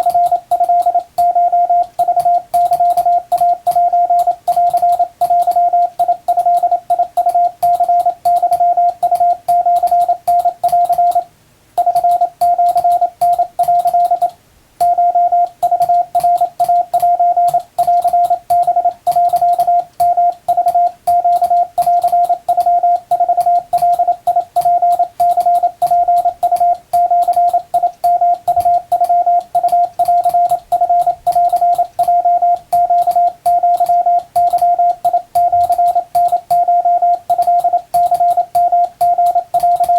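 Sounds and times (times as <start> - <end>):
keying clicks: 0.0 - 11.2, 11.8 - 39.9
morse code tone: 0.0 - 39.9.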